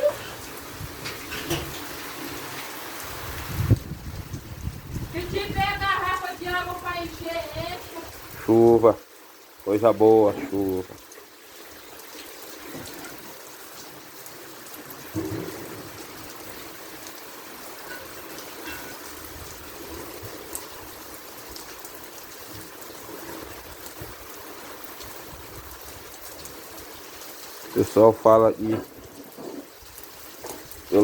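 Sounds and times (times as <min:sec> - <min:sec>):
water dripping: 0:00.0 - 0:25.1
heavy rain: 0:00.0 - 0:31.0
water trickling: 0:00.0 - 0:31.0.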